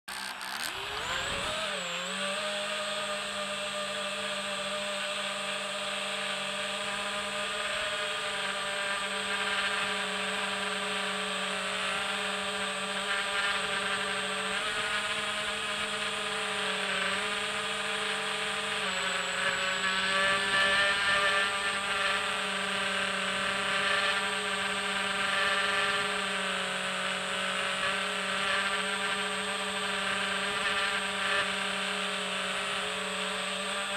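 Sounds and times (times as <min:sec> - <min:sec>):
drone motors whining: 0:00.1 - 0:33.9.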